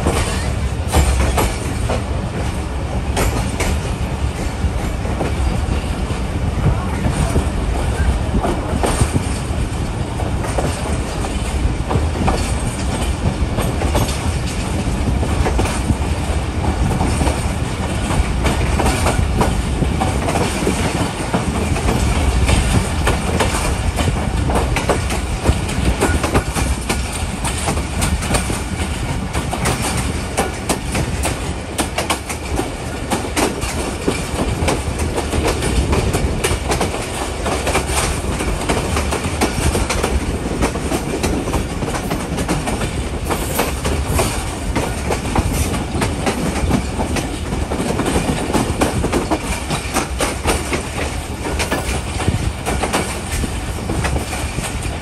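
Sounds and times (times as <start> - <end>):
train rumble: 0.0 - 55.0
wheels clattering over rail joints: 0.0 - 55.0.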